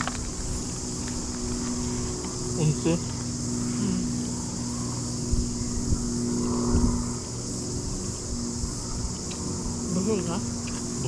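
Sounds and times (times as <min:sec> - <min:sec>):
engine hum: 0:00.0 - 0:11.0
high-pitched insect buzz: 0:00.0 - 0:11.0.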